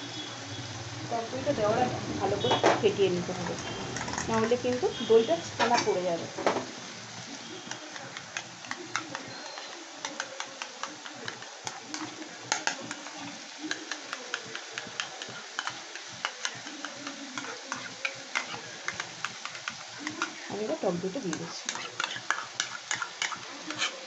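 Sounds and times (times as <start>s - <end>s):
frying sizzle in pan: 0.0s - 24.0s.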